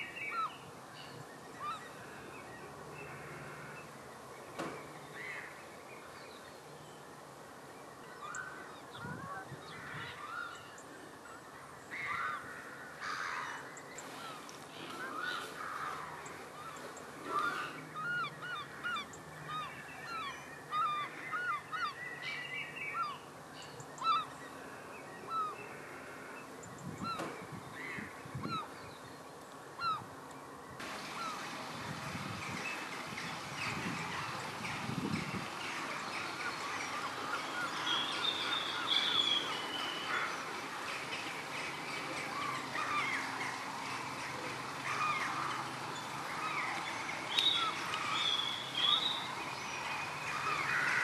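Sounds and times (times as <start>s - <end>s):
flock of birds calling: 0.0s - 51.0s.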